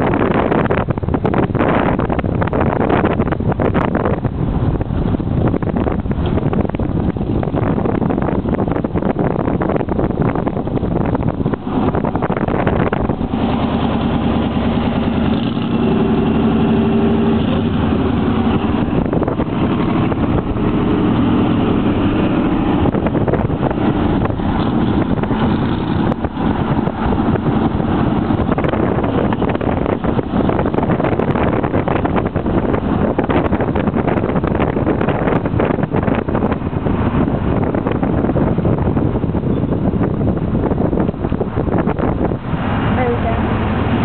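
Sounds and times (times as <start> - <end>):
car engine running: 0.0 - 44.0
road noise: 0.0 - 44.0
wind noise: 0.0 - 44.0.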